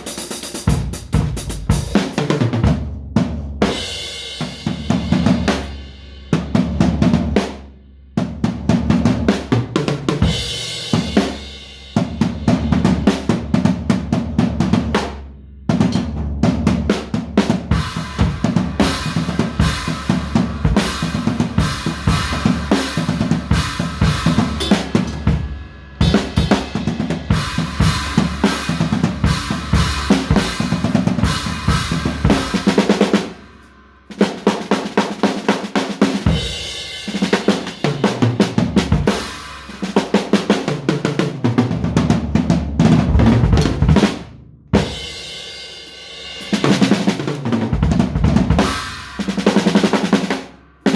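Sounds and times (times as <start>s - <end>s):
drum kit playing fast patterns: 0.0s - 7.6s, 8.2s - 50.9s.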